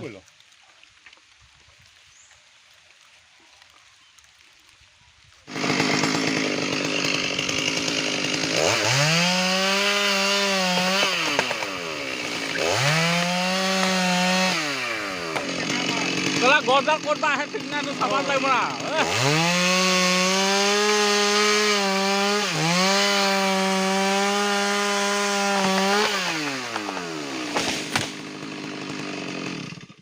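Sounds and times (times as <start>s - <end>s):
chainsaw revving: 5.5s - 30.0s.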